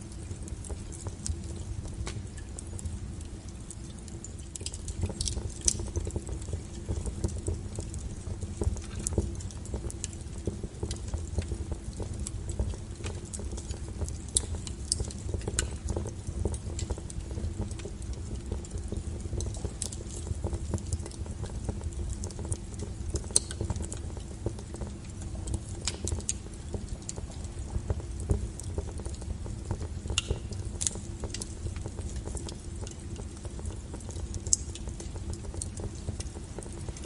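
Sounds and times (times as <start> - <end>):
firewood crackles and pops: 0.0 - 37.0
low rumble of flames: 0.0 - 37.0.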